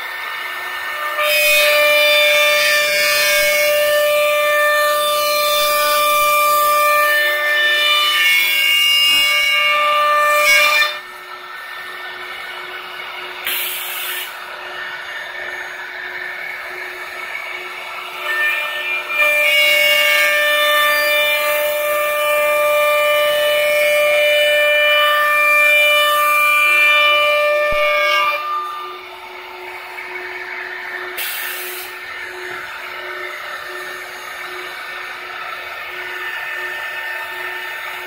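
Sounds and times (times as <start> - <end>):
router spindle whining: 0.0 - 38.0.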